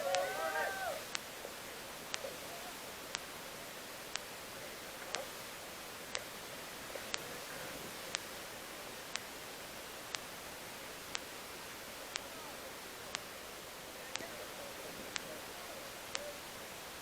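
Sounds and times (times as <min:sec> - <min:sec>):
clock-like ticks: 0:00.0 - 0:05.4, 0:06.1 - 0:09.4, 0:10.0 - 0:10.4, 0:11.0 - 0:16.6
steady hiss: 0:00.0 - 0:17.0.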